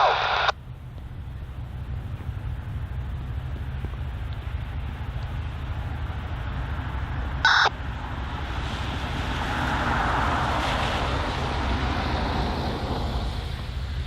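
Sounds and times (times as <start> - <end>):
low rumble and rushing hiss: 0.0 - 14.0.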